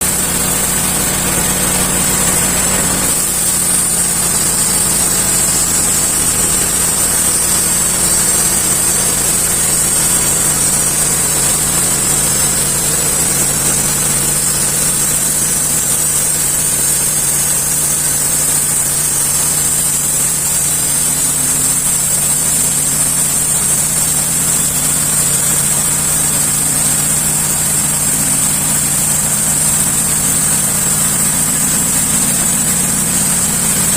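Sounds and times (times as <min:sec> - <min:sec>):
sawmill saw cutting log: 0:00.0 - 0:33.9.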